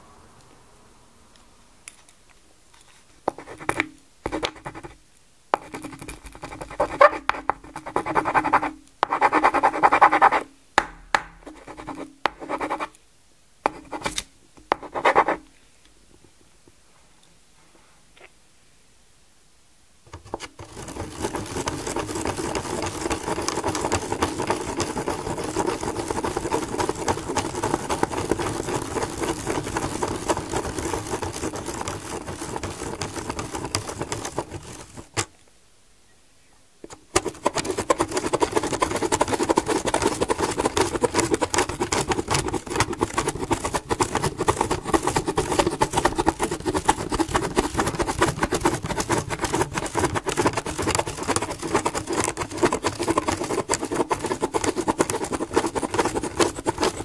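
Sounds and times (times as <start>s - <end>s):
pen scratching on paper: 3.3s - 5.0s, 5.6s - 13.0s, 13.7s - 15.4s, 20.2s - 35.3s, 36.9s - 57.0s.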